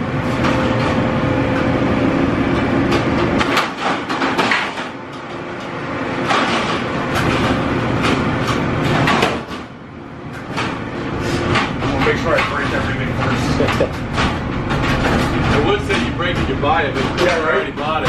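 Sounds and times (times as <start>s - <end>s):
steady rumbling hum: 0.0s - 18.0s.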